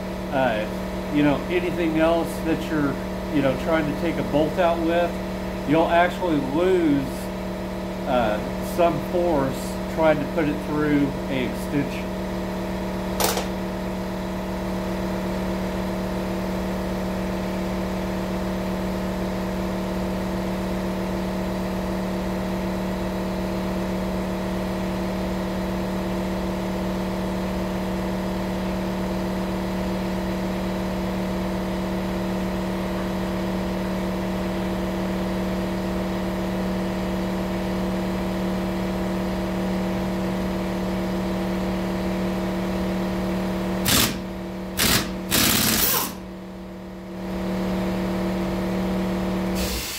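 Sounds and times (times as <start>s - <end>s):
steady machine hum: 0.0s - 23.6s, 24.2s - 49.9s.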